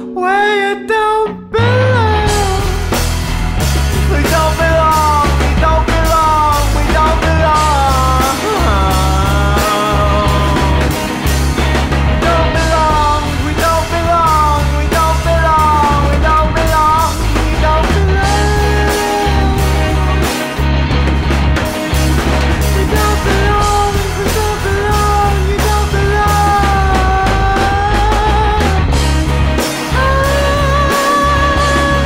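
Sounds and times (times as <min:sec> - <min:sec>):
bass line: 0:00.0 - 0:32.0
electric lead guitar bending notes: 0:00.0 - 0:32.0
drums: 0:01.6 - 0:32.0.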